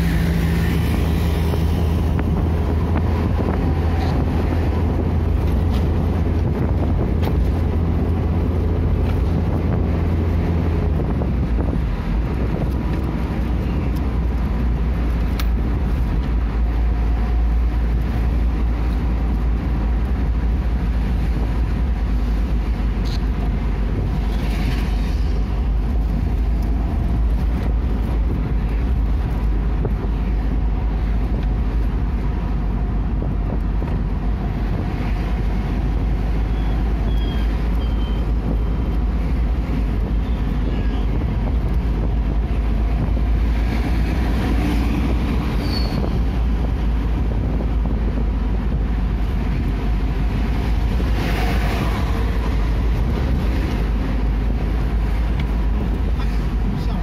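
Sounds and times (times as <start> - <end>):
vehicle cabin road rumble: 0.0 - 57.0.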